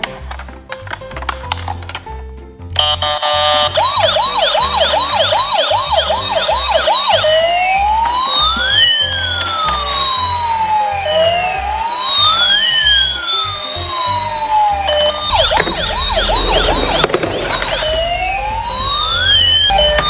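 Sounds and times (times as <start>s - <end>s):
emergency vehicle siren: 2.8s - 20.0s
low pulsing beat: 3.8s - 20.0s.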